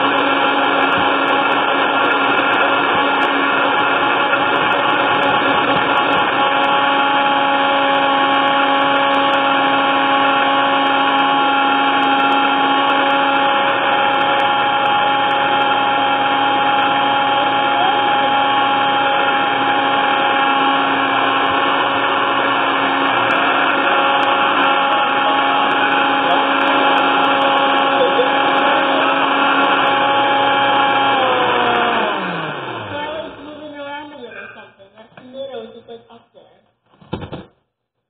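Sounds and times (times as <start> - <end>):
blender motor humming: 0.0 - 34.6.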